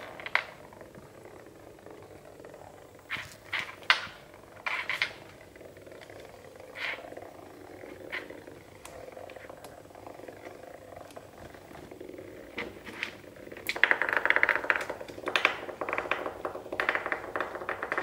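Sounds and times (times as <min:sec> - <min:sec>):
vibrating toy bug buzzing rattle: 0:00.0 - 0:18.0.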